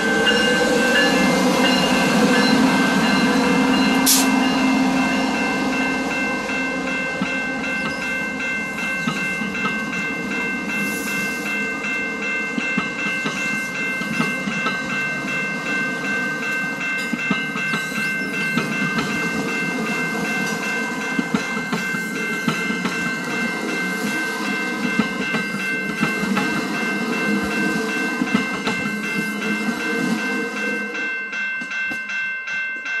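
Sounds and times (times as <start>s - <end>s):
high-pitched tones: 0.0s - 31.1s
train rumbling past: 0.0s - 31.9s.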